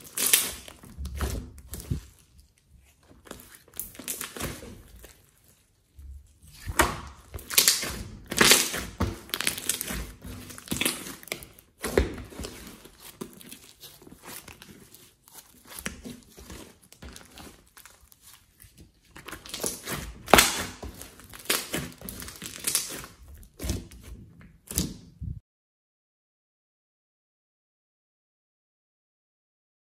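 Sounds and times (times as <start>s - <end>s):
slime squelching: 0.0s - 25.4s.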